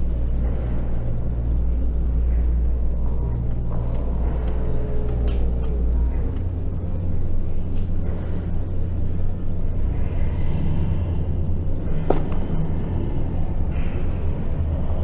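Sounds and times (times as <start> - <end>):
stadium low rumble: 0.0 - 15.0.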